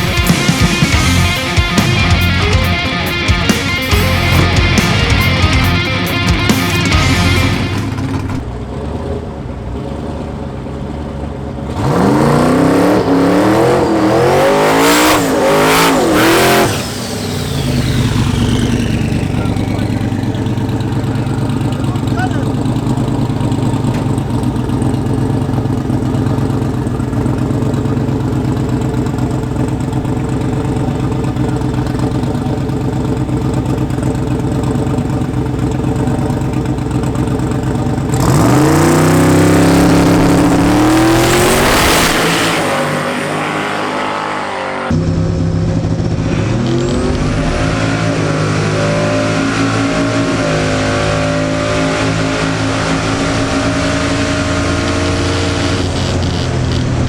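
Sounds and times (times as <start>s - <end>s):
car engine idling: 0.0s - 57.0s
car engine revving and pulling away: 0.0s - 57.0s
engine rev blips: 0.0s - 57.0s.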